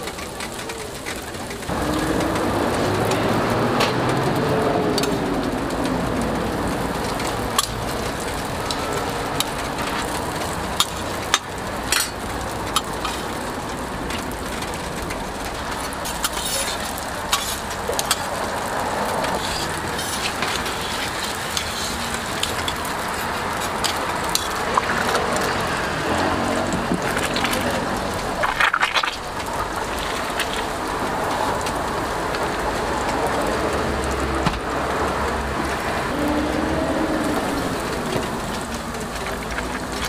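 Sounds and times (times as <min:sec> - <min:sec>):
pancake sizzling on griddle: 0:00.0 - 0:36.2.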